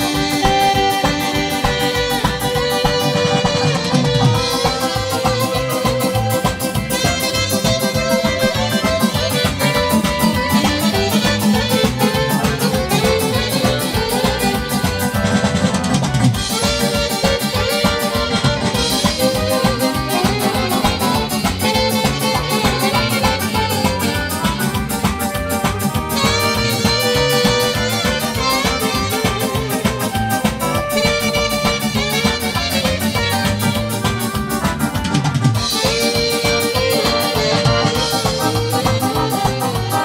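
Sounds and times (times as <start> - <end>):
electric guitar: 0.0 - 40.0
electronic keyboards: 0.0 - 40.0
saxophones: 0.0 - 40.0
steady drum beat: 0.0 - 40.0.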